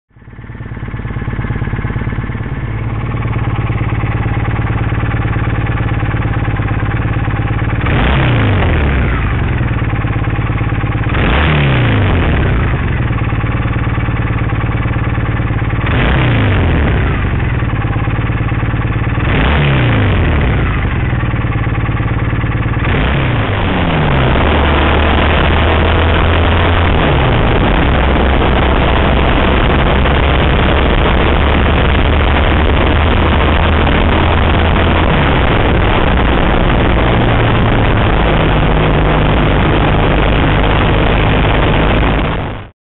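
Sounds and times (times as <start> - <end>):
motorcycle engine revving: 0.1 - 42.7.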